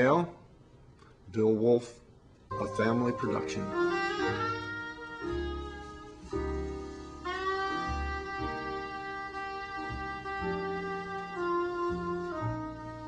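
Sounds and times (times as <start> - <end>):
held melody notes: 2.5 - 13.0
low bass line: 2.5 - 13.0.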